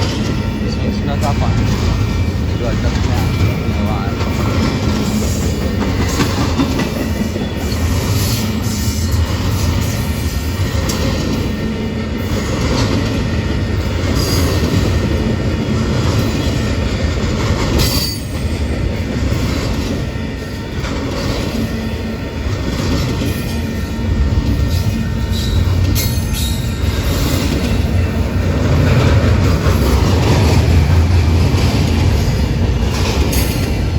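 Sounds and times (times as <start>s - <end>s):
freight train rumbling: 0.0s - 33.9s
train wheel clacks: 0.0s - 33.9s.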